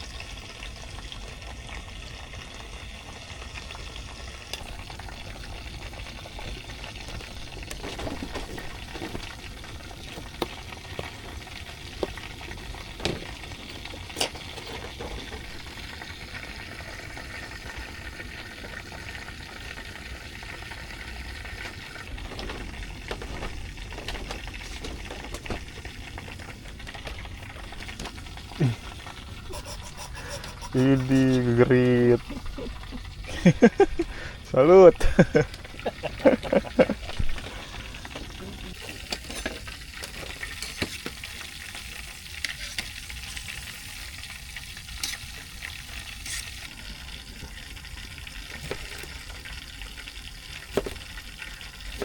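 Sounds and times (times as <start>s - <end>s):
water hissing and splashing: 0.0s - 52.0s.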